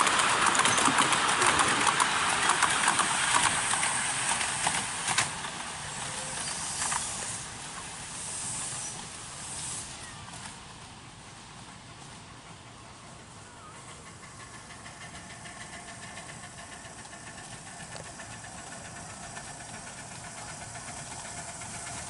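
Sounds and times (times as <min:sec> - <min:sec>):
hissing rush: 0:00.0 - 0:10.6, 0:13.3 - 0:22.0
train wheels clicking on rails: 0:00.0 - 0:22.0.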